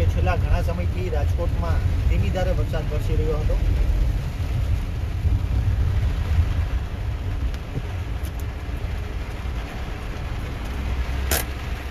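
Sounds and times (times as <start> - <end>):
engine and tyres rumbling: 0.0 - 11.9
hiss of rain and spray: 0.0 - 11.9.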